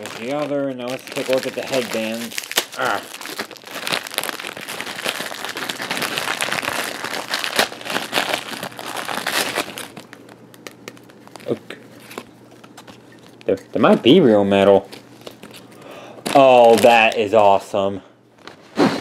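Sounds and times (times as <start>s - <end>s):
plastic bag crinkling: 0.0s - 17.8s.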